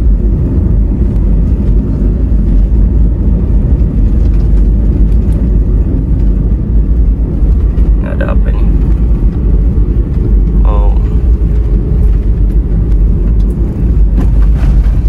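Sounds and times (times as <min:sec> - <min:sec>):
car driving heard from inside: 0:00.0 - 0:15.0.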